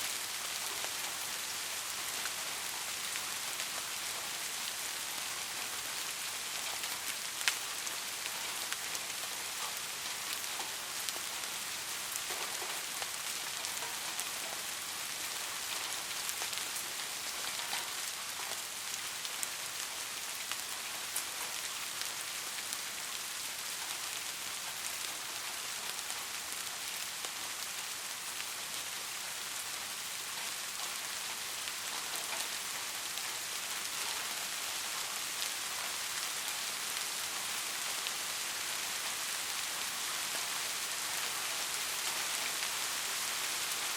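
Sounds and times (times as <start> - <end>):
rain hissing on a surface: 0.0 - 43.9.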